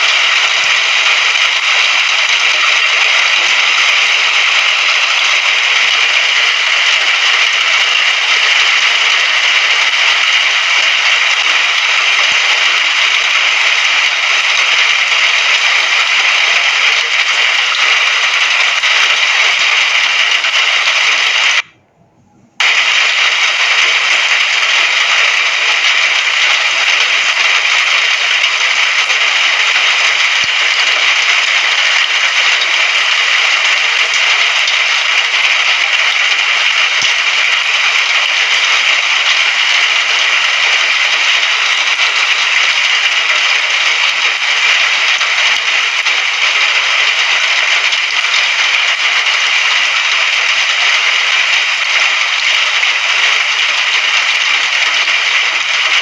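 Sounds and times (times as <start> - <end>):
rain falling: 0.0 - 21.7, 22.6 - 56.0.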